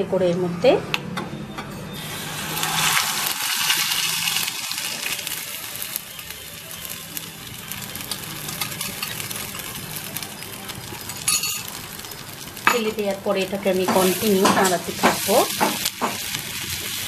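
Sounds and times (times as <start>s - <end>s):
hot fat sizzling and crackling: 2.0s - 17.0s.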